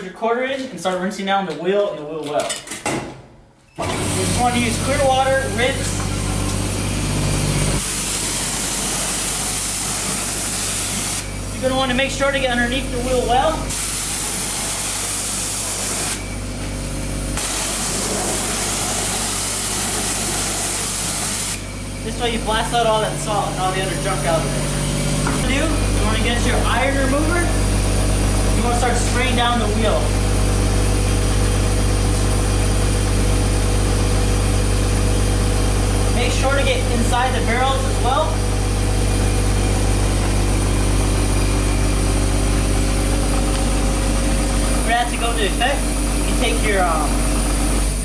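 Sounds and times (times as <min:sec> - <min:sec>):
pressure washer jet hissing: 0:03.8 - 0:11.8, 0:12.7 - 0:16.5, 0:17.2 - 0:48.0
machinery drone: 0:03.8 - 0:48.0
steady low hum: 0:04.2 - 0:48.0.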